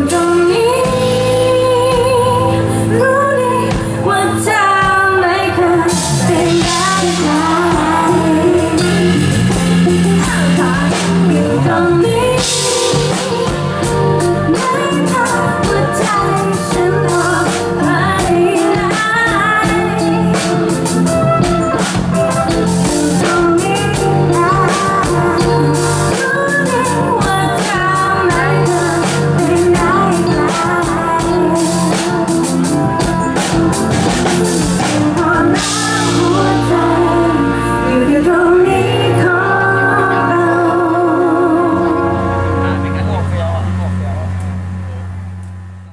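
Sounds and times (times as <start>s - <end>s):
drum kit: 0.0s - 45.9s
electric guitar: 0.0s - 45.9s
keyboard: 0.0s - 45.9s.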